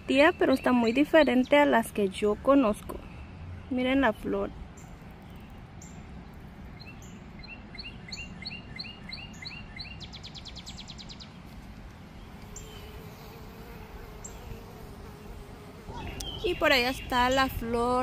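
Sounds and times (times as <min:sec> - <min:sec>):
songbird chirping and trilling: 0:00.0 - 0:11.5, 0:12.1 - 0:18.0.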